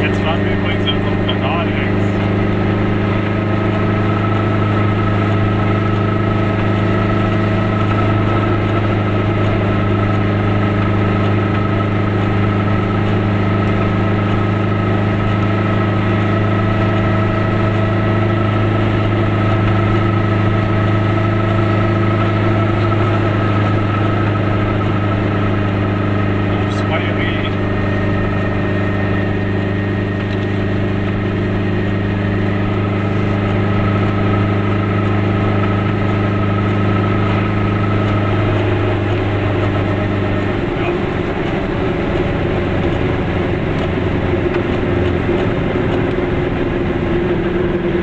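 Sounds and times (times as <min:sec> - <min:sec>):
road noise: 0:00.0 - 0:48.0
two-stroke car engine droning: 0:00.0 - 0:48.0.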